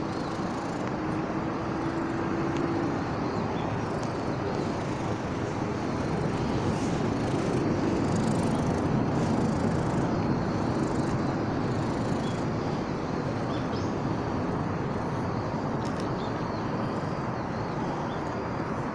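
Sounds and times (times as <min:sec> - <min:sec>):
outdoor background rumble: 0:00.0 - 0:18.9.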